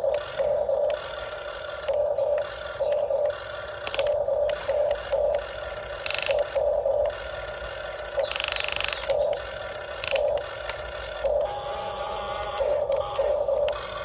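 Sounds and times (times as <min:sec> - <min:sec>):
electric motors whirring: 0:00.0 - 0:14.0
high buzzing motor run: 0:00.0 - 0:14.0.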